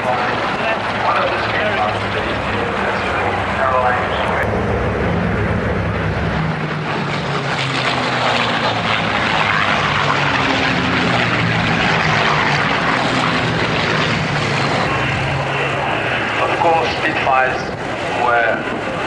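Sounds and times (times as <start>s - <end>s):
propeller aircraft engine drone: 0.0s - 19.0s.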